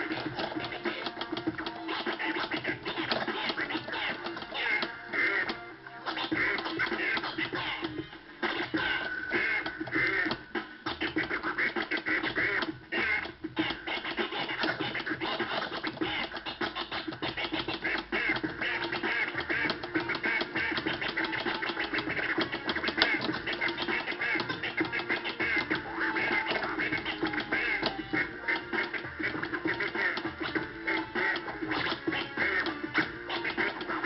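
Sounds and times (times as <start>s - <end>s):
vinyl record scratching: 0.0s - 34.0s.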